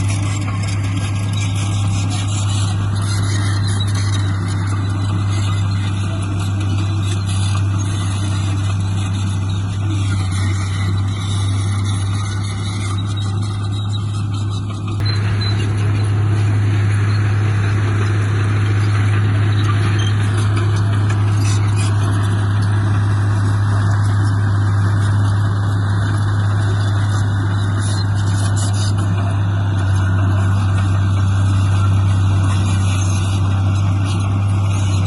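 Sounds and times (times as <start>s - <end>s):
heavy diesel engine humming: 0.0s - 35.0s.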